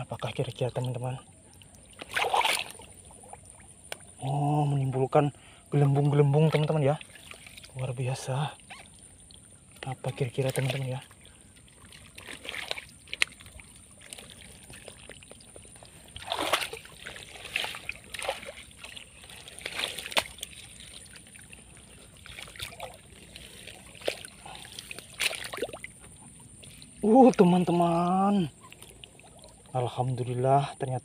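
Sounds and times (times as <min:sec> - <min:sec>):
water splashing and sloshing: 0:00.0 - 0:31.0.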